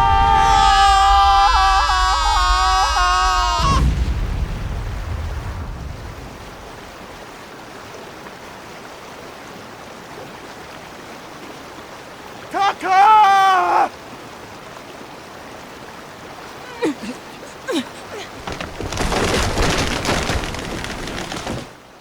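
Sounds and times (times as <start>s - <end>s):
churning water rushing: 0.0s - 22.0s.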